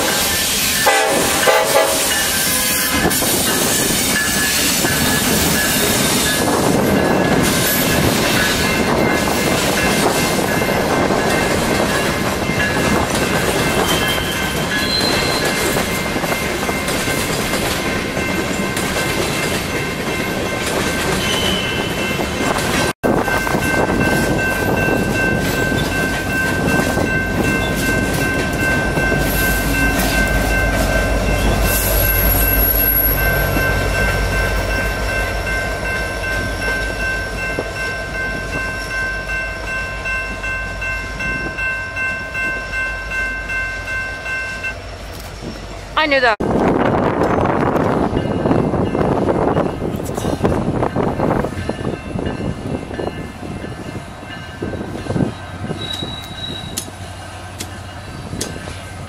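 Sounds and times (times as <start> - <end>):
diesel locomotive engines rumbling: 0.0 - 59.0
train wheels rumbling on rails: 0.0 - 59.0.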